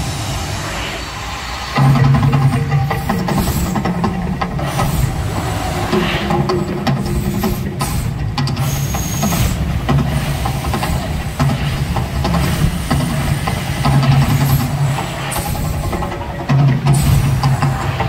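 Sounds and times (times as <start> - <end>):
deep loud rumbling: 0.0 - 18.0.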